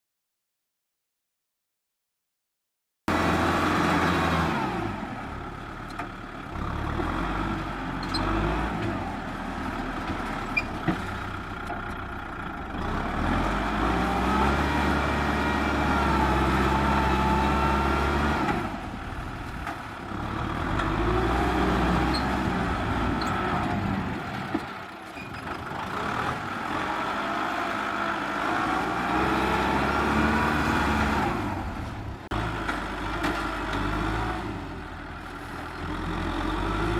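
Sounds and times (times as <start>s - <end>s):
tractor diesel engine under load: 3.1s - 36.9s.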